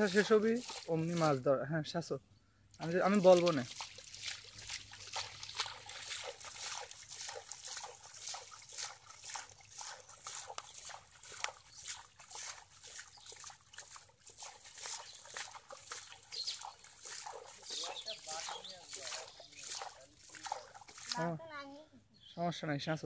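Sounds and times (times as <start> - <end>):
hands squelching in mud: 0.0 - 1.4, 2.8 - 21.4.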